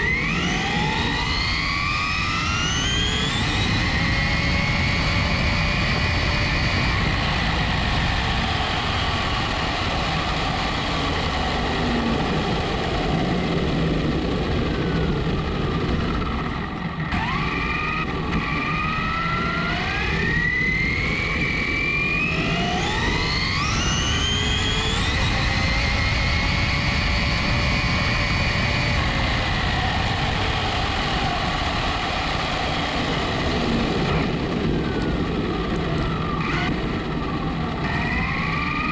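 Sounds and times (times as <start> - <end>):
electric motor whine: 0.0 - 38.9
wind and tyre noise: 0.0 - 38.9.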